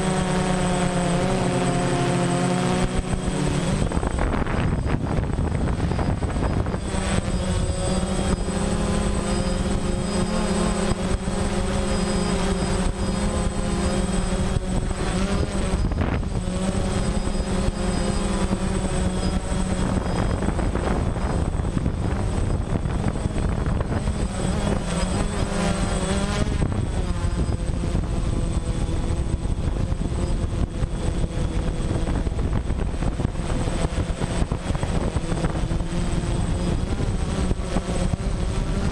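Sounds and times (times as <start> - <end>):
drone propellers whining: 0.0 - 38.9
wind rushing on microphone: 0.0 - 38.9.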